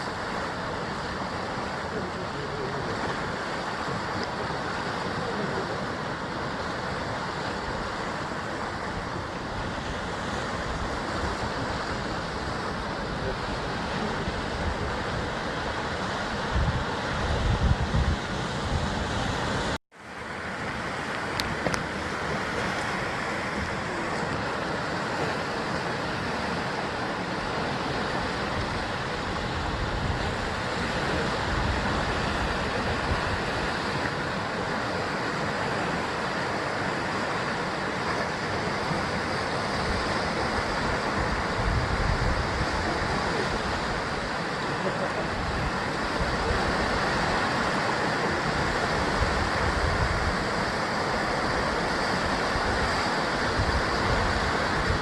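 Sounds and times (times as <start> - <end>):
sea surf against rocks: 0.0 - 55.0.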